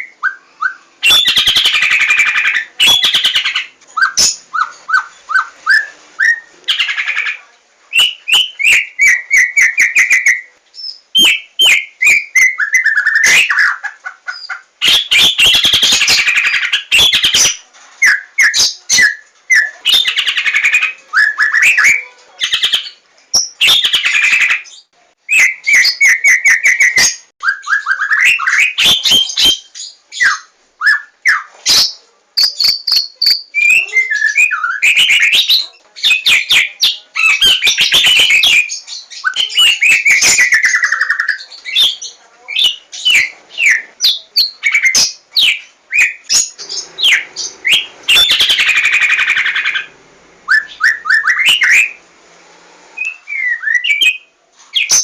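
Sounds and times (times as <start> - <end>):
songbird whistling and trilling: 0.0 - 6.9, 7.9 - 13.8, 14.4 - 49.9, 50.5 - 52.0, 53.0 - 55.0.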